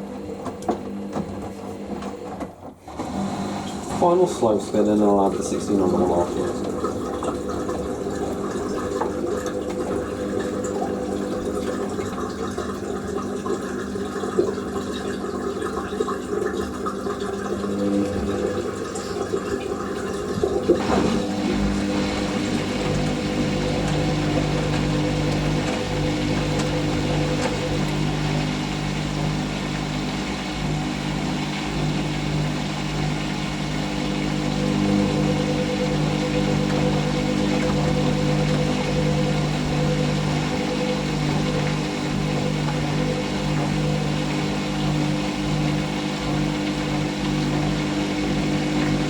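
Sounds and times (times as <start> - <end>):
drain pump running: 0.0 - 49.0
washing machine drum spinning hum: 0.0 - 49.0
water gurgling: 3.0 - 49.0.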